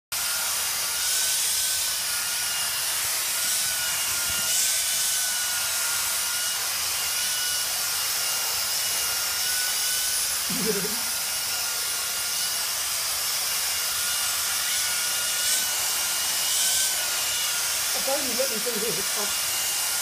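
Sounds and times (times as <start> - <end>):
handheld vacuum cleaner running: 0.2 - 20.0.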